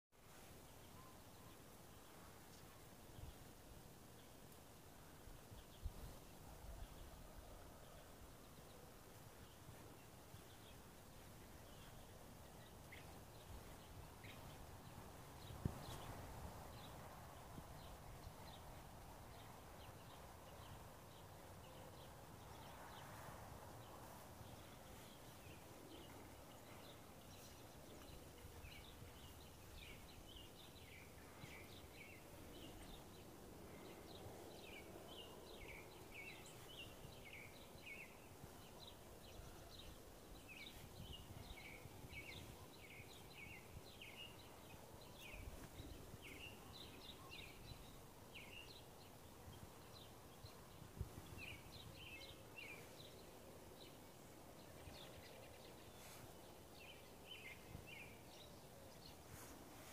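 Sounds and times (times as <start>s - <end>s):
songbirds chirping: 0.1s - 59.9s.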